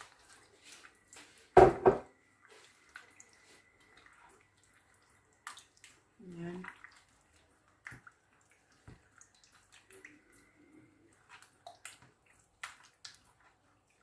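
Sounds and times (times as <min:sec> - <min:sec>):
water dripping in cooking pot: 0:01.8 - 0:14.0.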